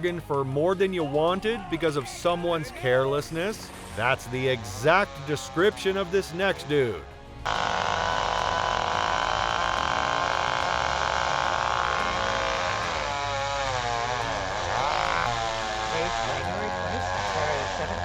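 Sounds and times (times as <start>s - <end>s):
chainsaw running: 3.4s - 18.0s.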